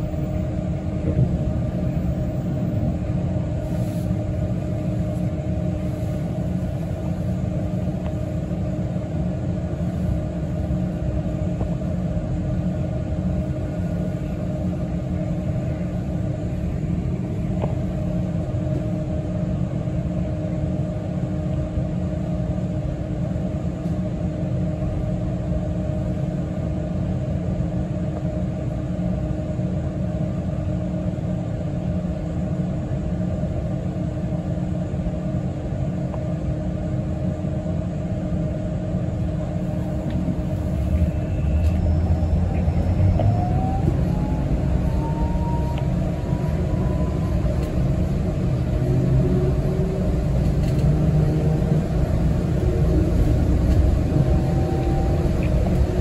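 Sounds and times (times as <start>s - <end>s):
bus engine rumble inside cabin: 0.0s - 56.0s
constant hum: 0.0s - 56.0s.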